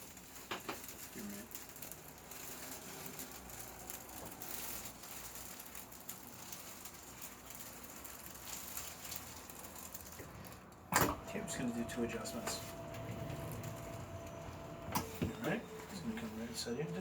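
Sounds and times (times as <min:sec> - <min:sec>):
faint rustling: 0:00.0 - 0:17.0.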